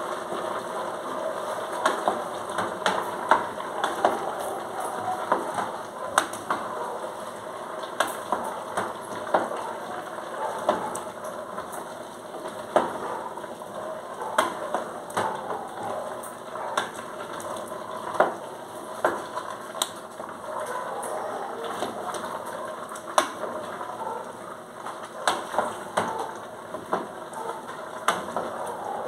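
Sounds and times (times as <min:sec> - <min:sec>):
frying sizzle: 0:00.0 - 0:29.0.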